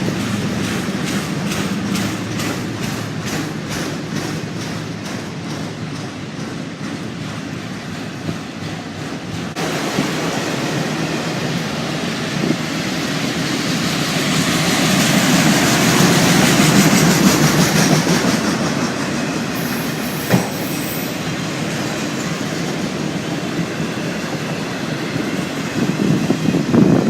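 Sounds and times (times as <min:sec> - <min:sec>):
train wheels rumbling over rails: 0:00.0 - 0:27.0.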